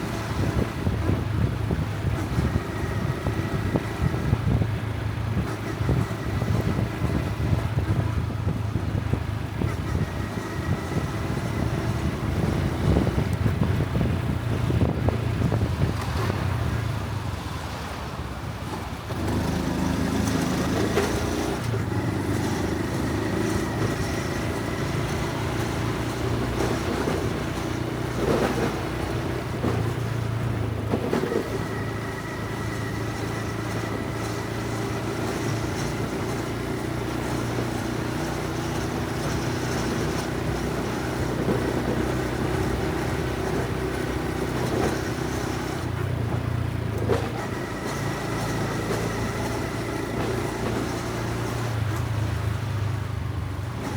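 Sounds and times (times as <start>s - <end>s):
motorcycle engine running: 0.0s - 17.7s, 18.9s - 53.9s.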